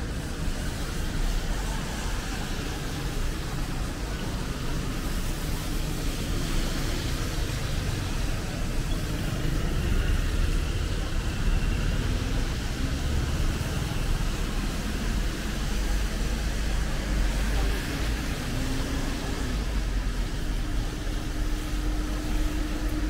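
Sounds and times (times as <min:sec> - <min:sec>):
low rumble of road traffic: 0:00.0 - 0:23.0
rain hissing: 0:00.0 - 0:23.0.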